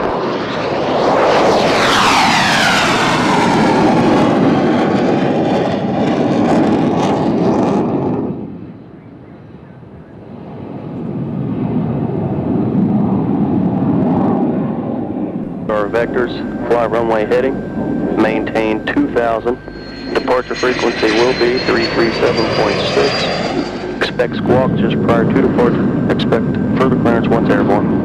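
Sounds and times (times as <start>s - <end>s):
jet fighter passing at full power: 0.0s - 28.0s.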